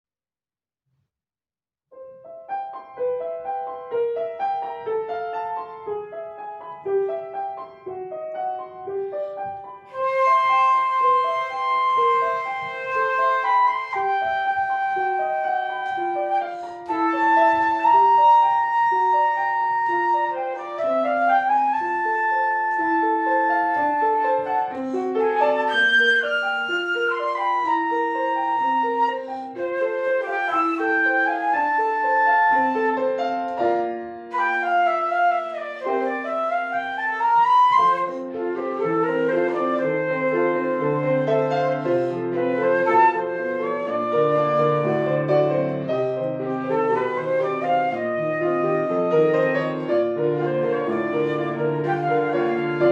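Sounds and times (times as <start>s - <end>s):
piano playing: 2.0s - 52.9s
wind instrument melody: 5.9s - 52.9s.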